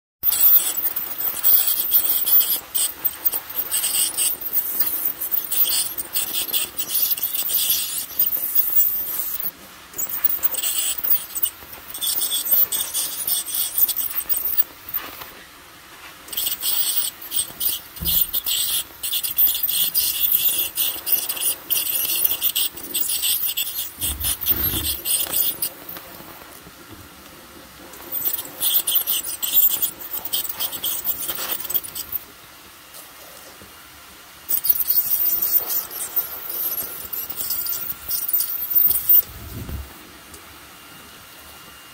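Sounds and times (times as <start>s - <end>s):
dental scaler hissing and clicking: 0.2s - 15.2s, 16.3s - 26.1s, 28.0s - 32.2s, 34.5s - 39.2s.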